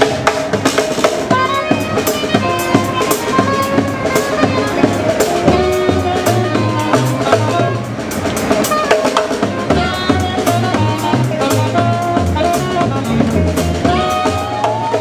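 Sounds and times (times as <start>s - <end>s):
marching brass band playing: 0.0s - 15.0s
snare drum strokes: 0.0s - 15.0s
sousaphone bass notes: 1.3s - 15.0s.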